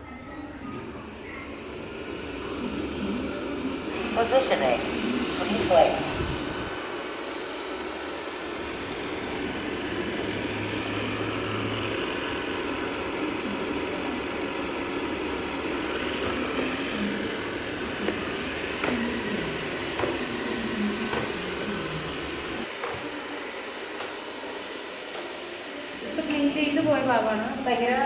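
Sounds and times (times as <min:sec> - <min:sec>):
robot vacuum humming: 0:00.0 - 0:28.0.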